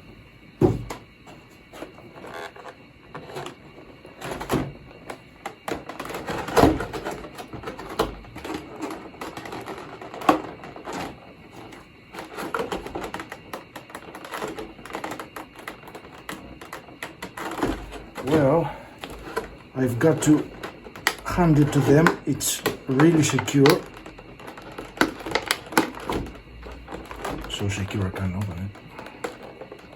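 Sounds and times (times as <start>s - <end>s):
packaging clicks and rustles: 1.7s - 29.9s.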